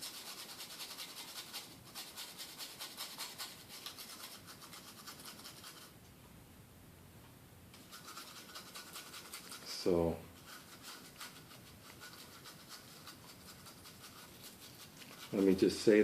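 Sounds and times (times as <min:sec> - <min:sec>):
brush scrubbing circuit board: 0:00.0 - 0:05.9, 0:07.8 - 0:16.0.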